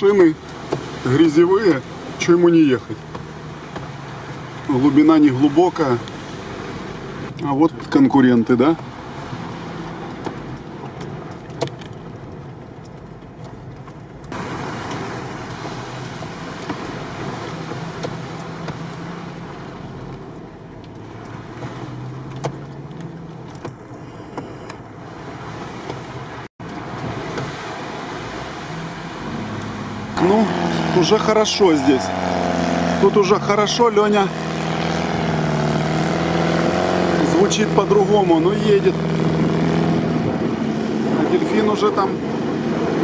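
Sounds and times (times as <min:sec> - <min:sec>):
off-road vehicle engine humming: 0:00.0 - 0:43.0
tyres on muddy track: 0:00.0 - 0:43.0.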